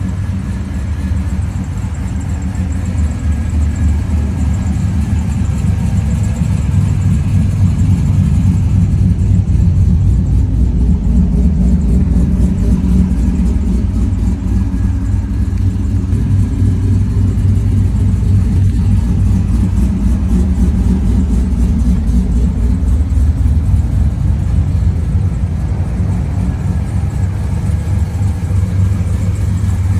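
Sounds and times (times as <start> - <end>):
car engine running with misfire: 0.0 - 29.9.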